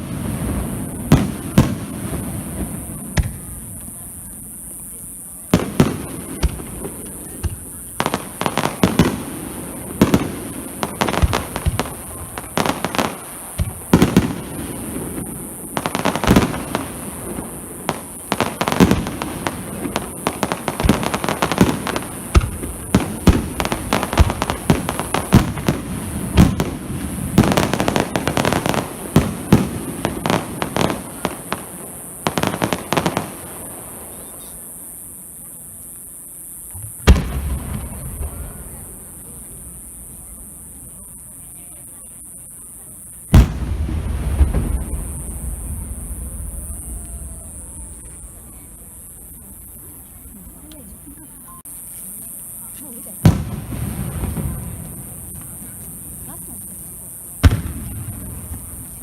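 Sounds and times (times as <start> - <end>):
fireworks bangs and crackling: 0.0 - 59.0
steady high hiss: 0.0 - 59.0.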